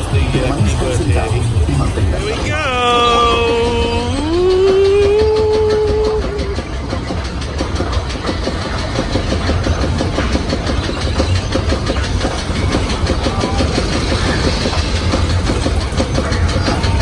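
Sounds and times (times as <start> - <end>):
roller coaster clacking and rattling: 0.0 - 17.0.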